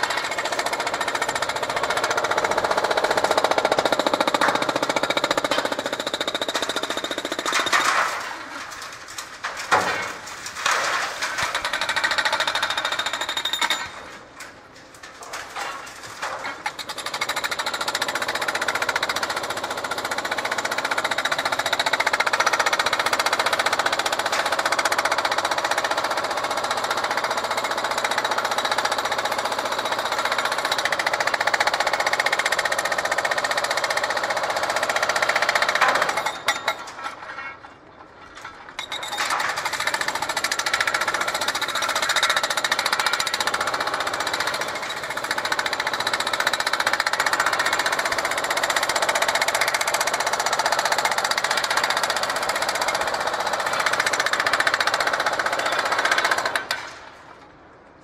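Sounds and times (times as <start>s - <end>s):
hydraulic breaker hammering concrete: 0.0s - 8.2s, 11.3s - 14.0s, 16.4s - 37.1s, 38.8s - 56.9s.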